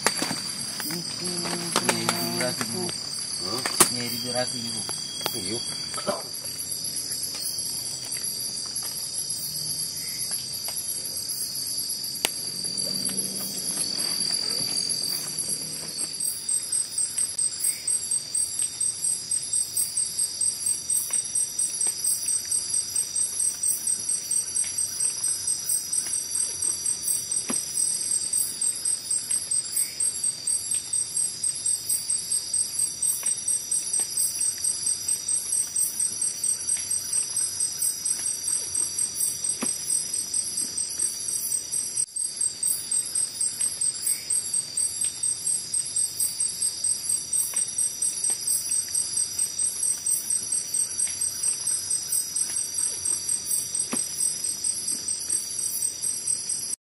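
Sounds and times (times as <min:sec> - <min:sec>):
insect calling in rapid pulses: 0:00.0 - 0:56.8
night insects trilling: 0:00.0 - 0:56.8.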